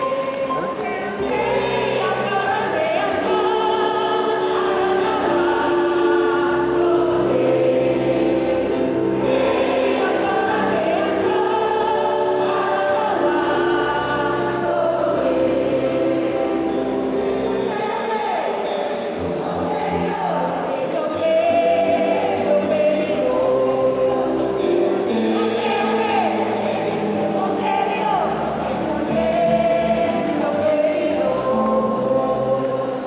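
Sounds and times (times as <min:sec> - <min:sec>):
choir singing sustained chords: 0:00.0 - 0:33.0.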